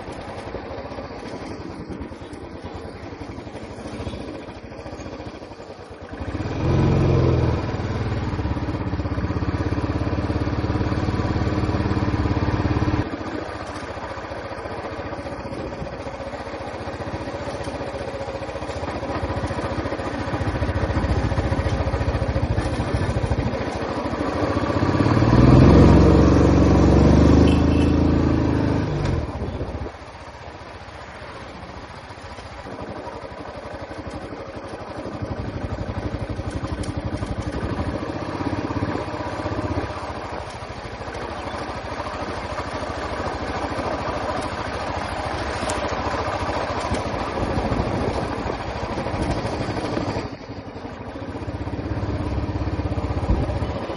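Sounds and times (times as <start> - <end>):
motorcycle engine and exhaust: 0.0 - 53.9.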